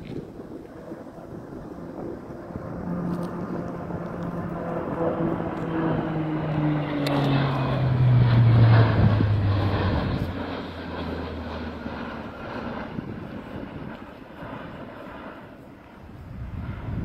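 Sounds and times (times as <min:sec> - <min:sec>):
propeller airliner flying overhead: 0:00.0 - 0:17.0.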